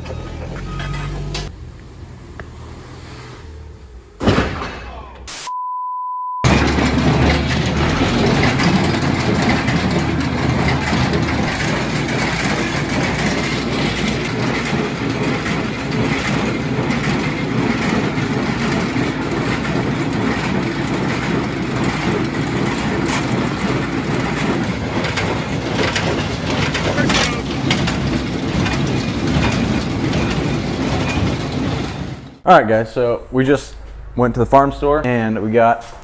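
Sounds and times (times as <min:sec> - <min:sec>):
baler mechanical clatter: 0:00.0 - 0:02.0, 0:04.2 - 0:05.3, 0:06.4 - 0:32.4
tractor engine drone: 0:00.0 - 0:05.5, 0:06.4 - 0:32.5.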